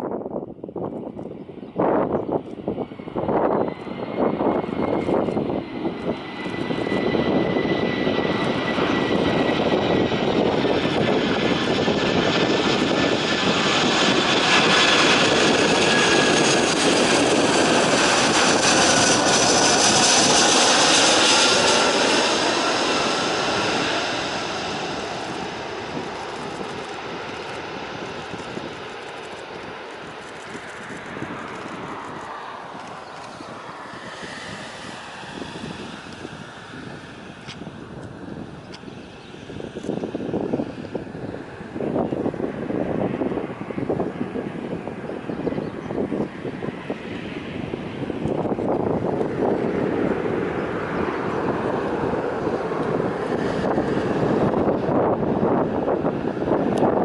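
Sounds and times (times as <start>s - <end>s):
jet airliner engines roaring: 0.0s - 57.0s
wind gusts on microphone: 0.0s - 57.0s.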